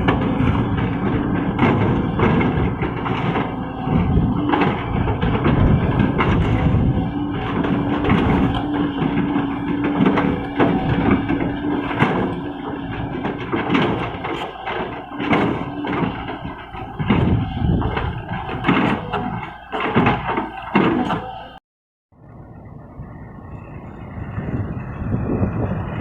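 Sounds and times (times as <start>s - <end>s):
excavator engine hum: 0.0s - 21.6s, 22.2s - 26.0s
knocks clanks and scrapes: 0.0s - 21.6s.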